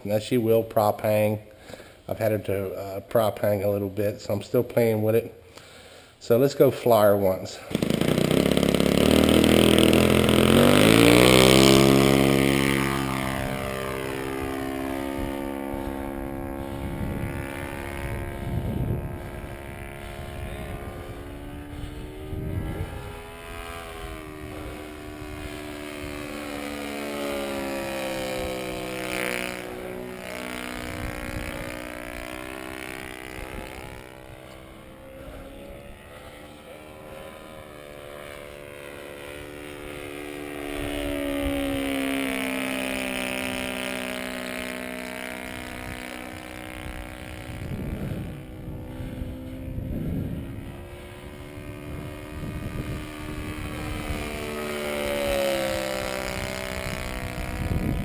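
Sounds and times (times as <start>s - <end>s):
model plane engine passing: 0.0s - 58.0s
wind buffeting microphone: 8.2s - 58.0s.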